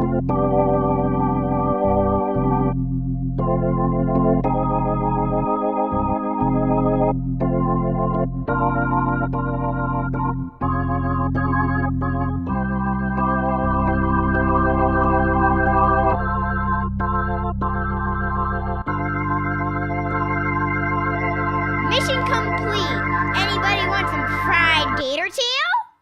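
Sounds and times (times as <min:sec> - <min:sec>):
organ chords with vibrato: 0:00.0 - 0:25.1.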